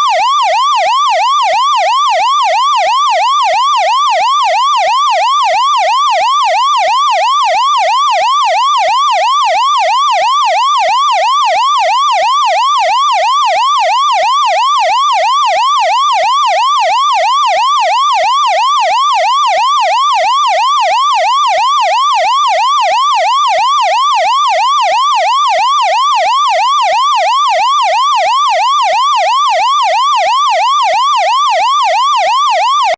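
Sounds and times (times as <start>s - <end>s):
fire engine siren wailing: 0.0s - 32.9s.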